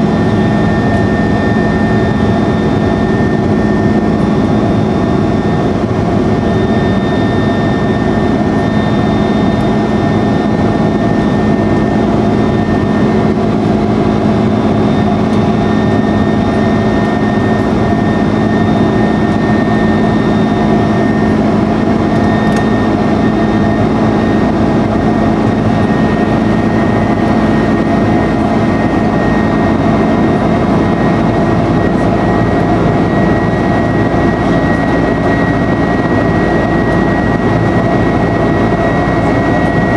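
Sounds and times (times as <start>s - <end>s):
high-pitched fan whine: 0.0s - 39.9s
jet engine roar: 0.0s - 39.9s.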